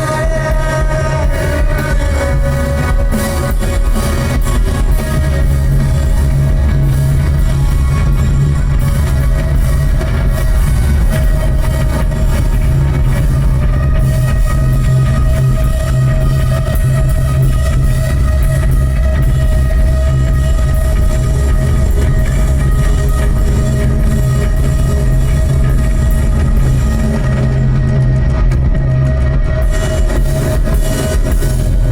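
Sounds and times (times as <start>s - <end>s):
rock band playing live: 0.0s - 31.9s.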